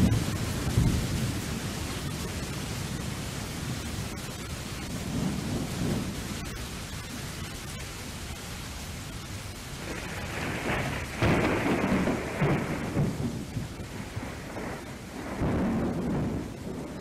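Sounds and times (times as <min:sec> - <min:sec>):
thunder rumbling: 0:00.0 - 0:07.8, 0:09.2 - 0:17.0
rain-like hiss: 0:00.0 - 0:17.0.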